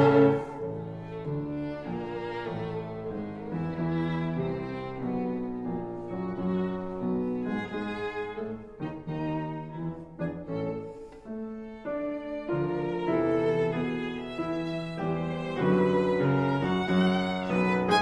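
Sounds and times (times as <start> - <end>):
violin and cello music: 0.0 - 18.0.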